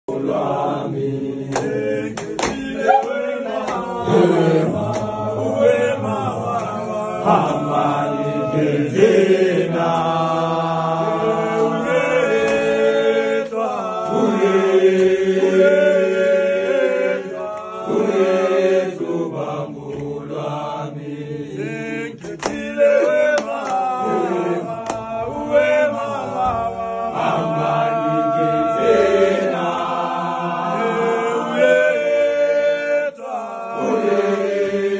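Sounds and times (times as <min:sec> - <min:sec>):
men singing in harmony: 0:00.1 - 0:34.9.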